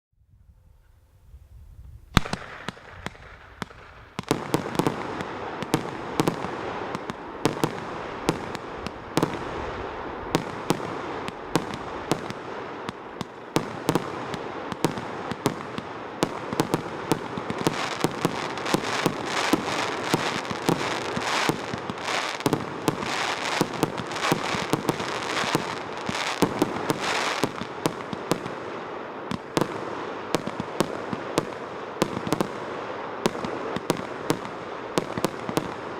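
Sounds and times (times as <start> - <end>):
firework pops and bursts: 2.1 - 9.7, 10.3 - 35.9
firework crackle: 2.1 - 35.9.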